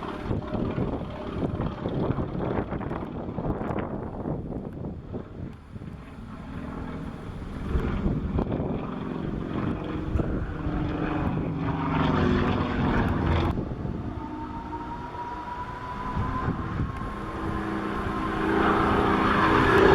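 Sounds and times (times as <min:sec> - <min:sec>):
propeller plane engine: 0:00.0 - 0:19.9.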